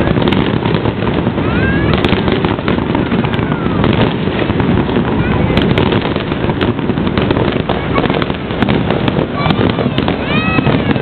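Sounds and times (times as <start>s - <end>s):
fireworks bursting: 0.0s - 11.0s
sharp firework cracks: 0.0s - 11.0s.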